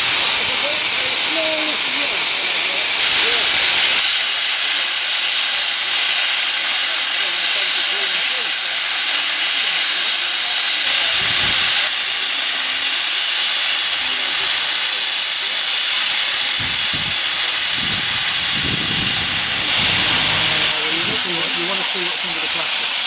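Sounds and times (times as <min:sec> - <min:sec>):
steam locomotive hissing steam: 0:00.0 - 0:23.0.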